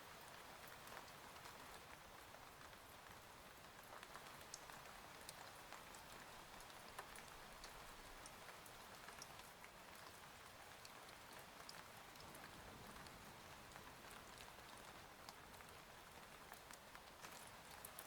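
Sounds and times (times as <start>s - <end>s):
raindrops ticking on a surface: 0.0s - 18.0s.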